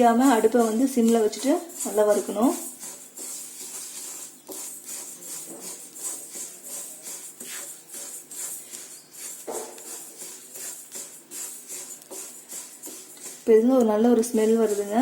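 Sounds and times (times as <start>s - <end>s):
grains rattling in a pan: 0.0s - 15.0s.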